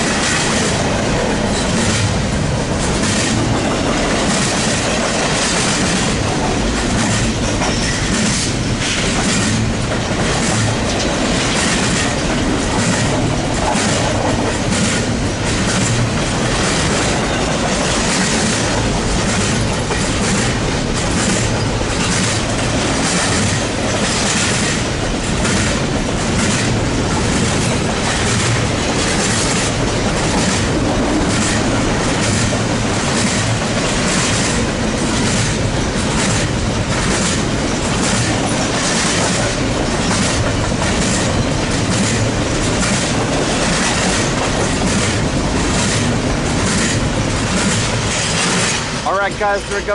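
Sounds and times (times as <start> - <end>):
freight train rumbling past: 0.0 - 49.9
wheels clacking over rail joints: 0.0 - 49.9.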